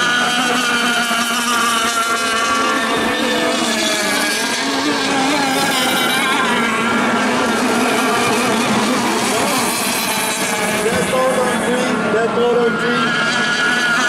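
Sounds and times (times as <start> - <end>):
outboard engine at high revs: 0.0 - 14.0.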